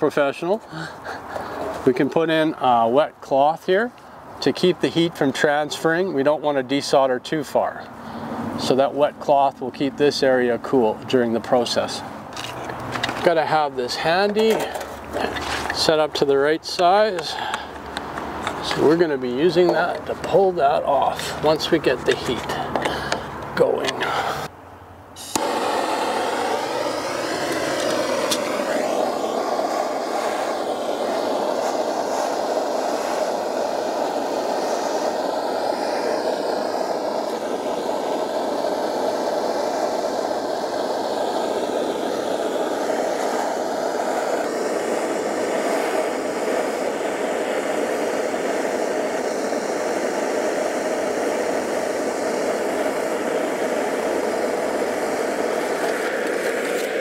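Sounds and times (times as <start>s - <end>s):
torch flame roaring: 0.0s - 3.0s, 5.4s - 24.5s, 25.1s - 57.0s.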